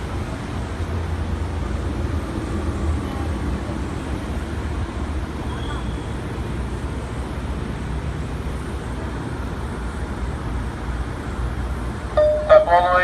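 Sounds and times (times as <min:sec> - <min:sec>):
subway car rumble and hiss: 0:00.0 - 0:13.0.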